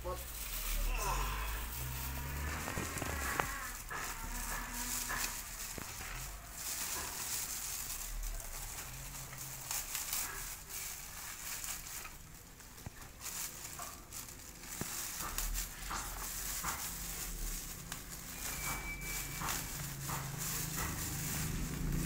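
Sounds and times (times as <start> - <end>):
plastic wrapping crinkling: 0.0 - 22.0.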